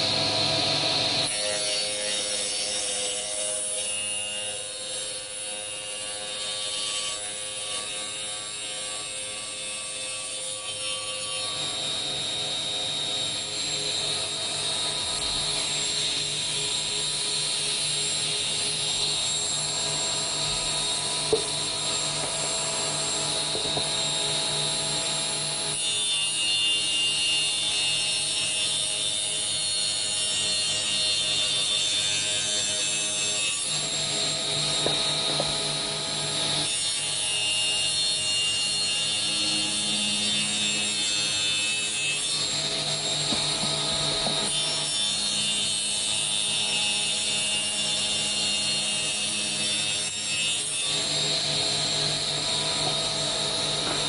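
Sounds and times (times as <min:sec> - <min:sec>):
saw blade whine cutting wood: 0:00.0 - 0:54.0.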